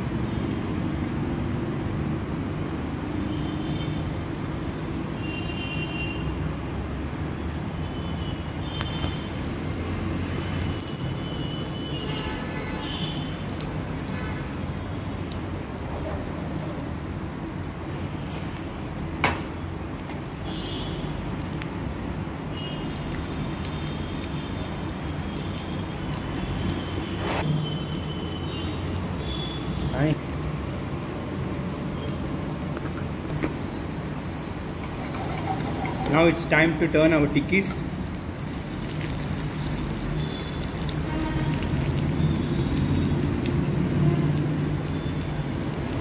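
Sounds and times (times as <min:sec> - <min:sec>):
food sizzling in hot oil: 0:07.1 - 0:46.0.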